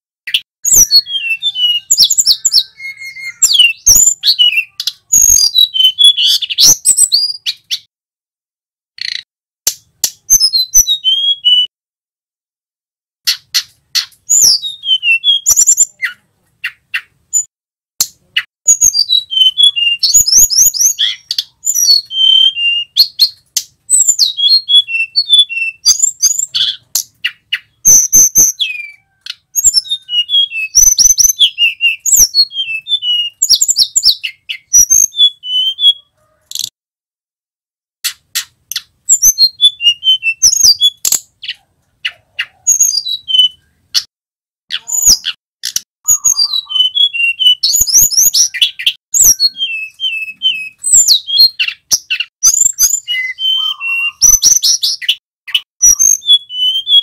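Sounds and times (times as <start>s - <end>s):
bird singing whistles and warbles: 0.3s - 7.9s, 10.0s - 11.7s, 13.3s - 17.5s, 18.4s - 36.7s, 38.4s - 44.1s, 44.7s - 57.0s.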